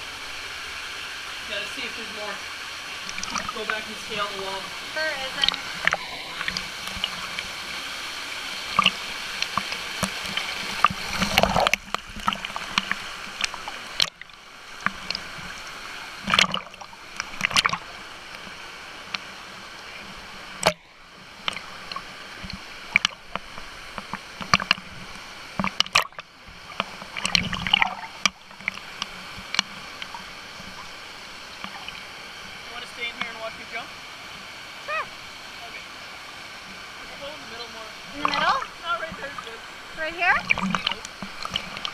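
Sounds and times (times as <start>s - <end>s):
small waterfall hissing: 0.0s - 41.9s
water sloshing and splashing: 0.0s - 41.9s.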